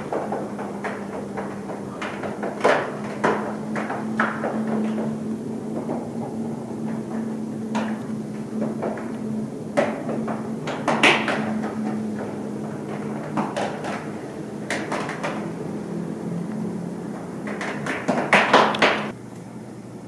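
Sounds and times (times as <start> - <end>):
knocks and clatters: 0.0 - 15.6, 17.1 - 19.2
ventilation system hum: 0.0 - 20.0.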